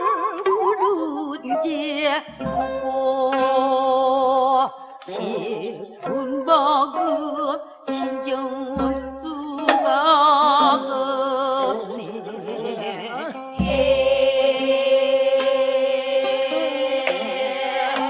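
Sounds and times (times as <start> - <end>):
folk singing with vibrato: 0.0 - 18.0
instrumental accompaniment: 0.0 - 18.0.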